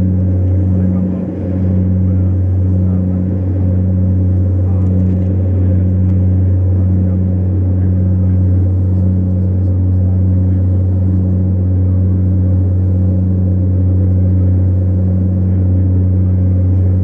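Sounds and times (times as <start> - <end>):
jet engines droning in cabin: 0.0 - 17.0.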